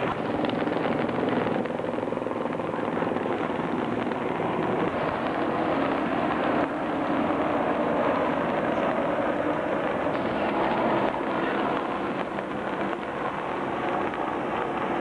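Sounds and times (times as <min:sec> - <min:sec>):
continuous rushing noise: 0:00.0 - 0:15.0
engine drone: 0:00.0 - 0:15.0.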